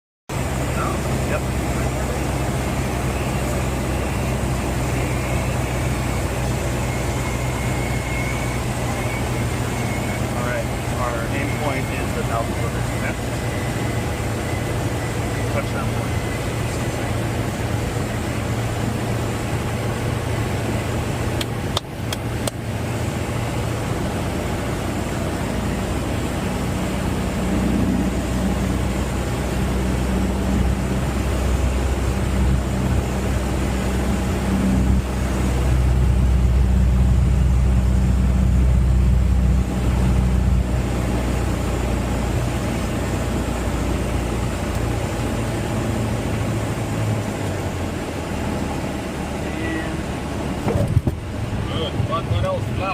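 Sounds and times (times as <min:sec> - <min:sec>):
plane engine and propeller droning: 0:00.3 - 0:52.9.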